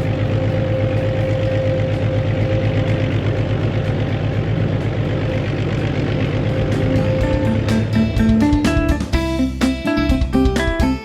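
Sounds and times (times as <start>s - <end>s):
faint steady whine: 0.0s - 9.2s
diesel engine rumbling: 0.0s - 11.0s.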